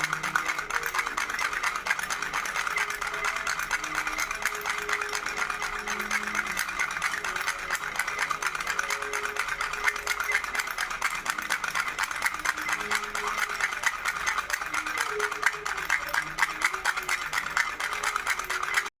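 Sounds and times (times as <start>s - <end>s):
baby rattle shaken: 0.0s - 18.9s.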